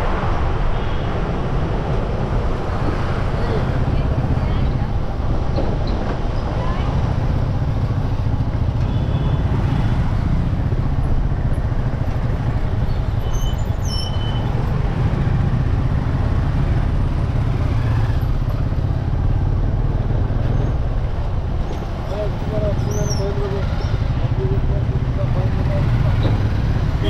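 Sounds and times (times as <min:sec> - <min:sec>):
motorcycle engine and road noise: 0:00.0 - 0:27.0.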